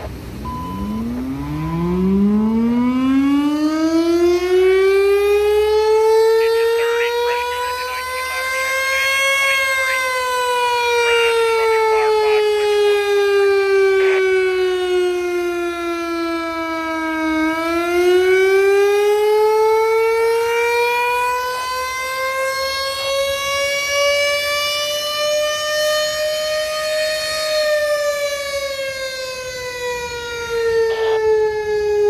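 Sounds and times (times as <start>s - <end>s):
wailing warning siren: 0.0s - 32.0s.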